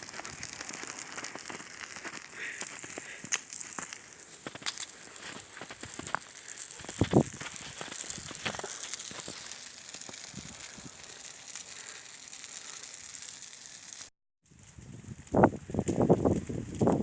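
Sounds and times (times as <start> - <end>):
fire crackling and popping: 0.0 - 17.0
fire hissing: 0.0 - 17.0.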